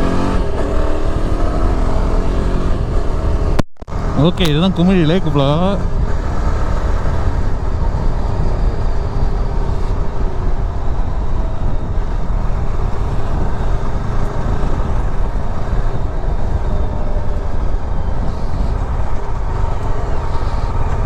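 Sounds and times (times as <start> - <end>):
motorcycle engine: 0.0 - 21.0
wind on microphone: 0.0 - 21.0.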